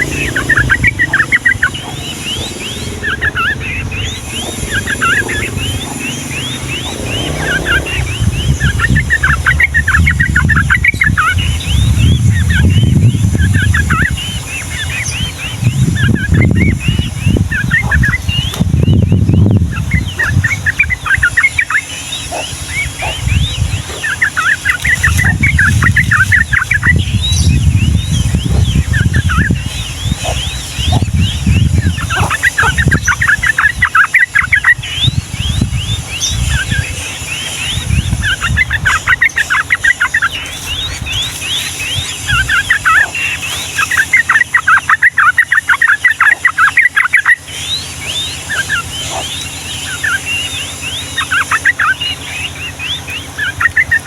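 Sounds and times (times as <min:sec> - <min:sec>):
loud low rumble: 0:00.0 - 0:21.3, 0:22.1 - 0:44.1
bird chattering song: 0:00.0 - 0:54.0.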